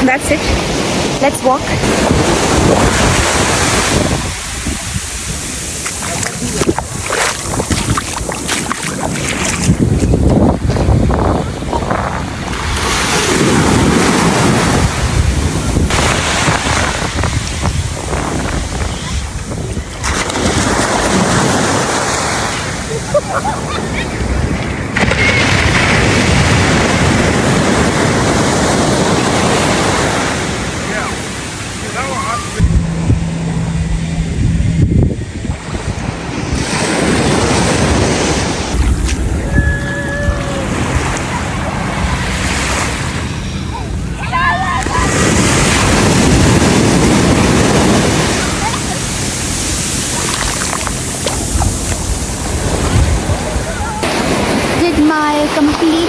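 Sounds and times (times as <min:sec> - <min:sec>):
wind gusting on microphone: 0:00.0 - 0:22.0, 0:32.6 - 0:55.5
surf washing on sandy beach: 0:00.0 - 0:56.0.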